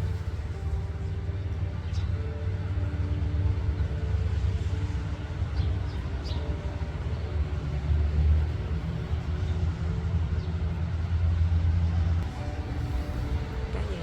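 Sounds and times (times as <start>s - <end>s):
faint steady tones: 0.0s - 14.0s.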